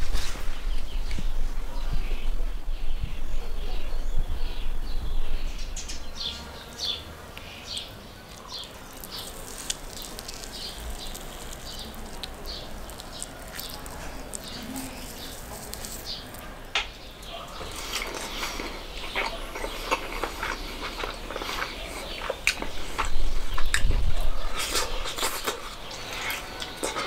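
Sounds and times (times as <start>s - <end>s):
small birds chirping: 0.6s - 27.0s.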